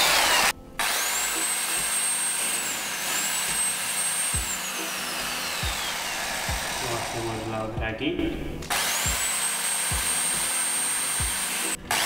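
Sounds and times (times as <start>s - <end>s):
electric drill whining: 0.0s - 7.7s, 8.7s - 12.0s.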